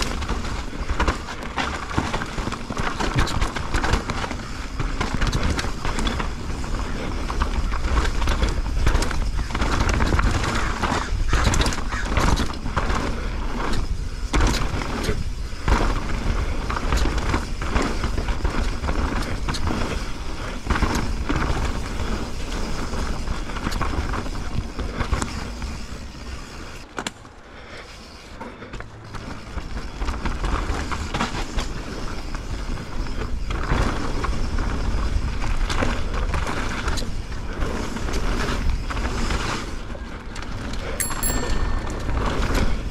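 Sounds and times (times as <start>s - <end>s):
bike rattling over bumps: 0.0s - 42.9s
bike tyres rolling on dirt: 0.0s - 42.9s.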